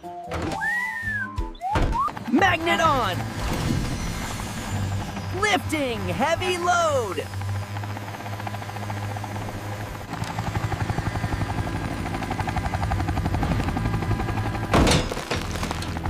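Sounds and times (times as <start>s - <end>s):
cartoon helicopter rotor: 0.6s - 16.0s.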